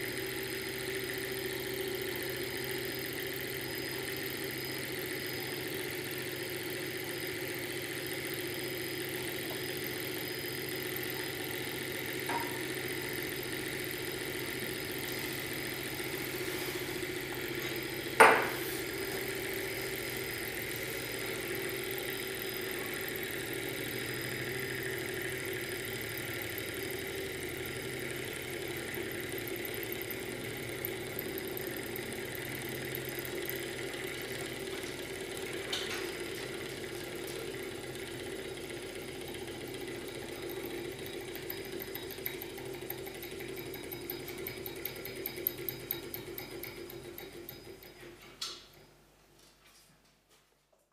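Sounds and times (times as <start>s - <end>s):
small engine mechanical hum: 0.0s - 49.6s.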